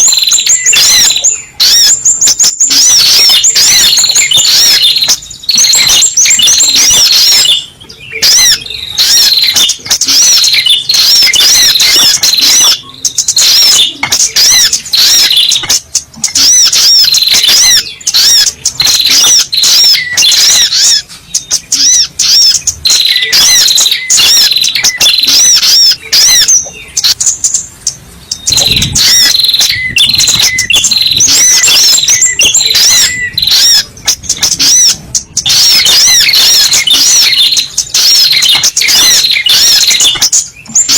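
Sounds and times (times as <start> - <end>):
bird rapid high chirps: 0.0 - 40.9.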